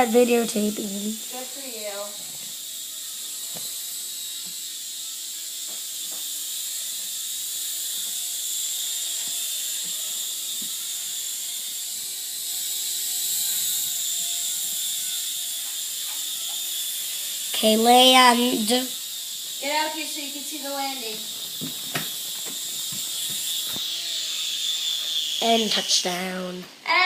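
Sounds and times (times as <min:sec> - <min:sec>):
toy helicopter rotor whine: 0:00.0 - 0:27.0.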